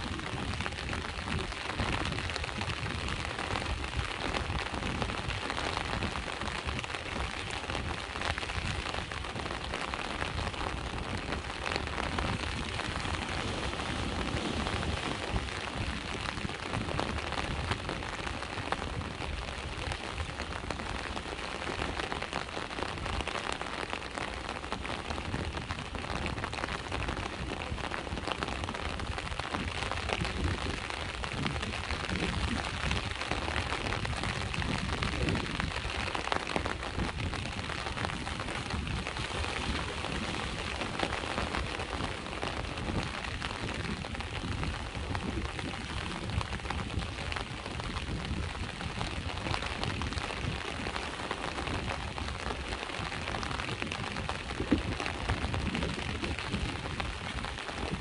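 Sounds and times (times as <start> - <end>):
sea waves washing: 0.0 - 30.2, 30.8 - 55.6
steady rain hissing: 0.0 - 58.0.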